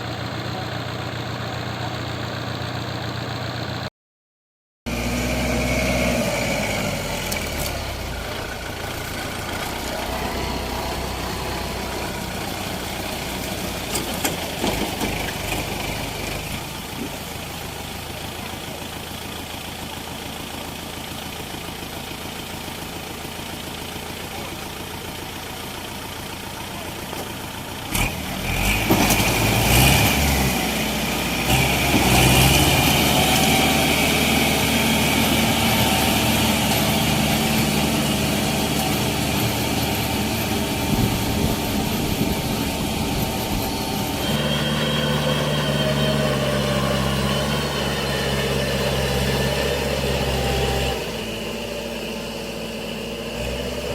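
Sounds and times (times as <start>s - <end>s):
tractor diesel engine revving: 0.0s - 3.9s, 4.9s - 53.9s.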